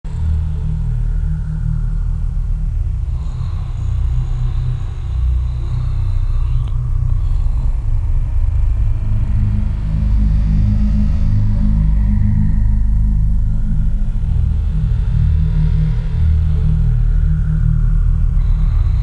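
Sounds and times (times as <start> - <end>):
deep electronic drone: 0.0 - 19.0.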